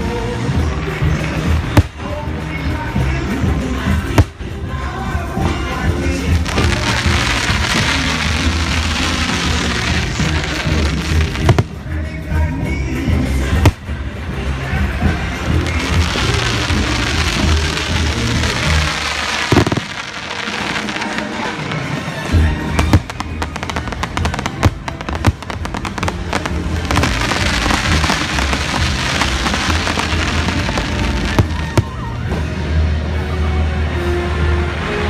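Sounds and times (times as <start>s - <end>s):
fireworks bursting and crackling: 0.0s - 33.0s
loud show music: 0.0s - 35.0s.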